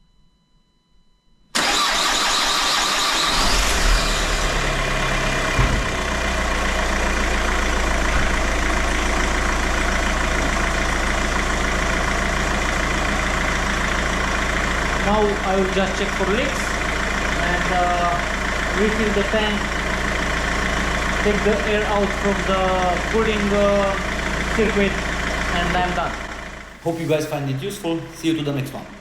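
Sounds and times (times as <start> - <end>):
diesel engine starting and idling: 1.5 - 29.0.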